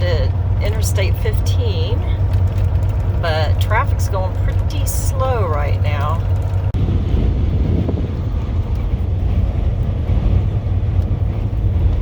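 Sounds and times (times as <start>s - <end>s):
road noise: 0.0s - 12.0s
strong wind: 0.0s - 12.0s
truck engine rumble: 0.0s - 12.0s.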